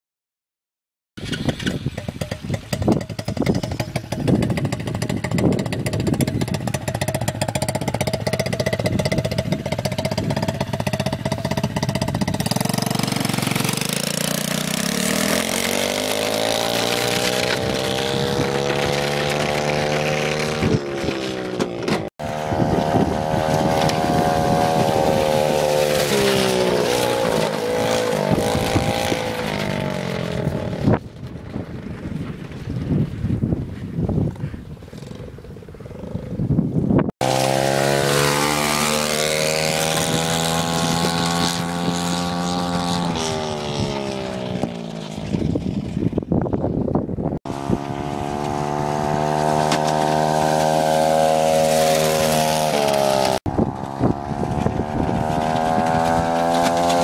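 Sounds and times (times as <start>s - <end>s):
motorbike engine revving: 1.2s - 31.5s, 34.8s - 57.0s.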